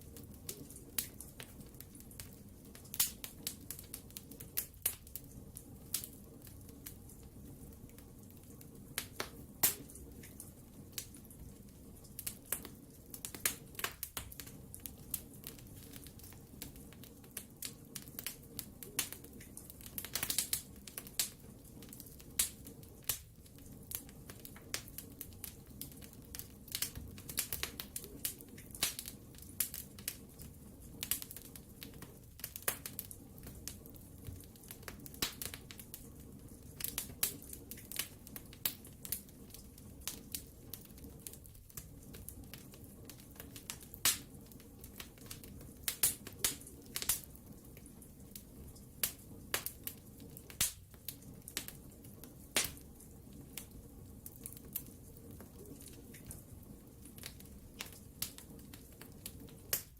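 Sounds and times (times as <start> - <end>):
fire crackles and pops: 0.0 - 59.9
low rumble of flames: 0.0 - 59.9.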